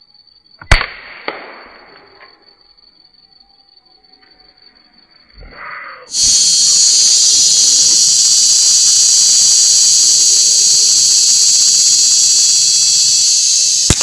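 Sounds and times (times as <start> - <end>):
high-pitched hiss: 0.0 - 14.0.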